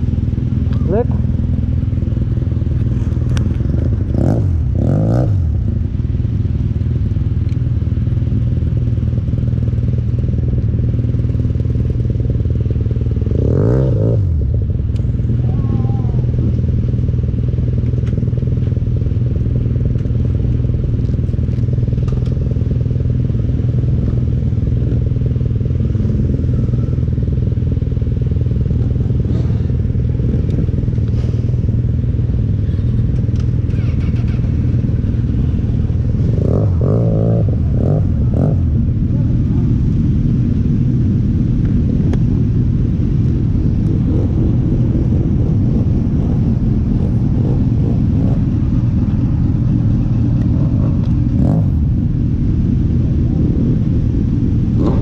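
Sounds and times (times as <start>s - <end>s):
motorcycle engine revving: 0.0s - 55.0s
motorcycle engines idling: 0.0s - 55.0s.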